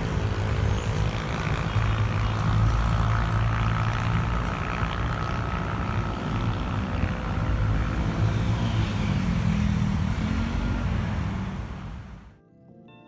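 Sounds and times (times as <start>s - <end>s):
vehicle engine running: 0.0s - 12.3s.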